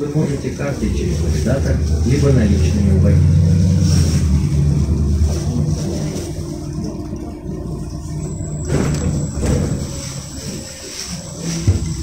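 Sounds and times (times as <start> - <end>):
bus engine hum: 0.0 - 12.0
road noise: 0.0 - 12.0.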